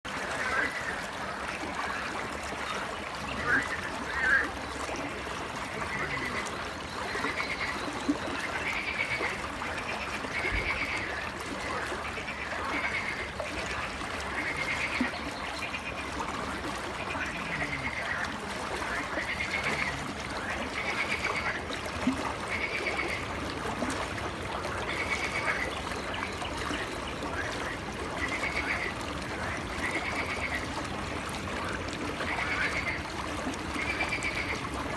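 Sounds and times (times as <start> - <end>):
river flowing: 0.1 - 34.9
frogs calling: 0.3 - 2.2, 3.2 - 4.7, 5.7 - 23.4, 24.6 - 30.7, 31.7 - 34.8.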